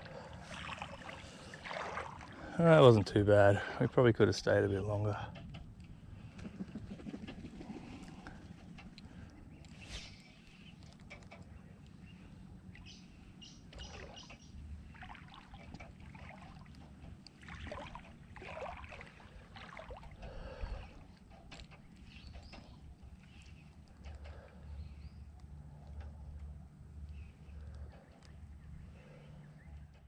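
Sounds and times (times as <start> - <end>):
legs wading through water: 0.0 - 4.0, 5.7 - 29.8.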